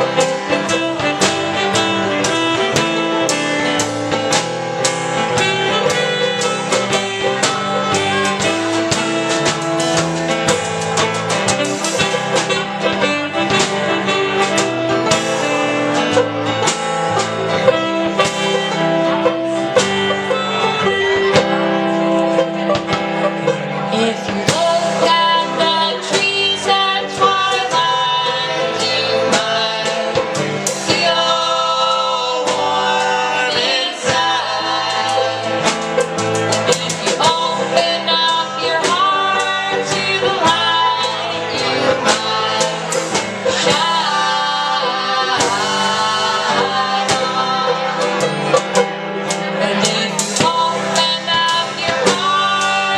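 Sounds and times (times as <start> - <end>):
folk band playing: 0.0 - 52.9
plucked guitar notes: 0.0 - 52.9.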